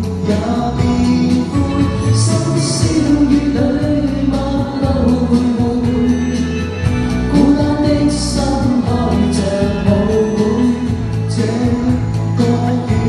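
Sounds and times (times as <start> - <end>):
backing track with bass line: 0.0 - 13.0
man and woman singing a pop duet: 0.0 - 13.0.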